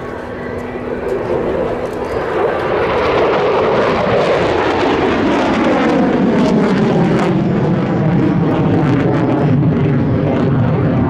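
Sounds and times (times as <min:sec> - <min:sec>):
jet engine roar passing: 0:00.0 - 0:11.0.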